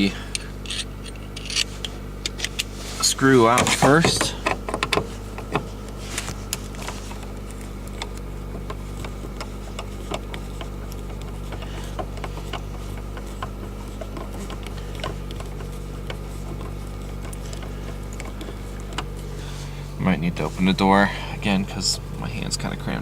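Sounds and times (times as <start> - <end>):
car heater blower hum: 0.0 - 23.0.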